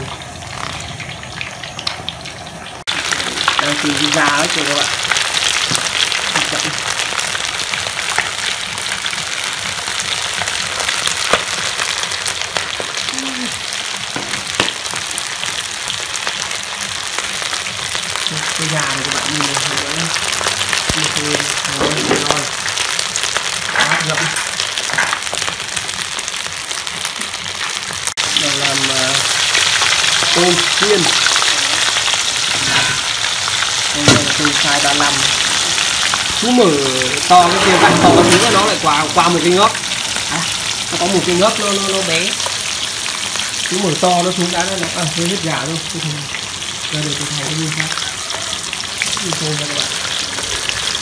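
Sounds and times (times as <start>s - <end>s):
deep-frying in hot oil: 0.0s - 51.0s.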